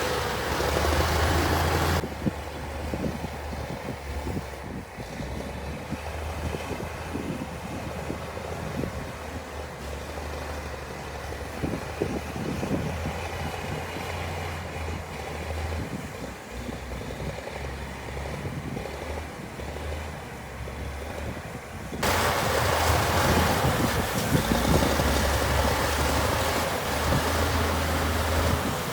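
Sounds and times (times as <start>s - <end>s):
diesel machinery engine rumbling: 0.0s - 28.9s
harsh engine noise: 0.0s - 28.9s
wind buffeting microphone: 0.0s - 28.9s.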